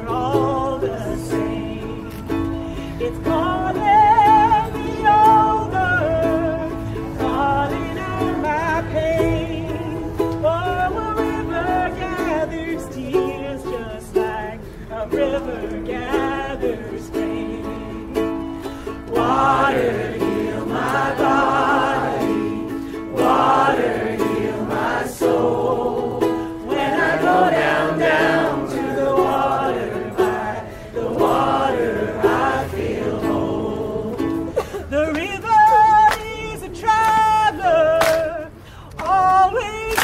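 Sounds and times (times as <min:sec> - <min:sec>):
group singing a folk song: 0:00.0 - 0:40.0
lead voice singing: 0:00.0 - 0:40.0
strummed acoustic string instrument: 0:00.0 - 0:40.0.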